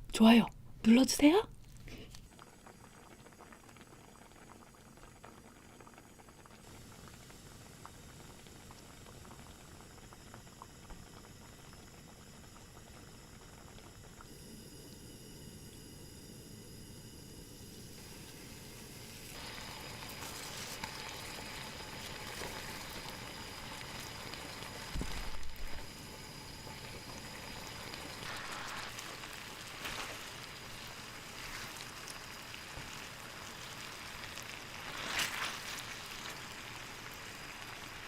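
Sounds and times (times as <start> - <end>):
octopus sizzling hiss: 1.9 - 38.0.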